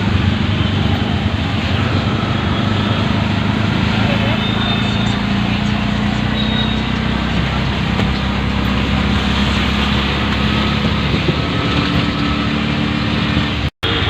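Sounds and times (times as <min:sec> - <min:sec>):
auto-rickshaw engine running: 0:00.0 - 0:14.0
road noise: 0:00.0 - 0:14.0.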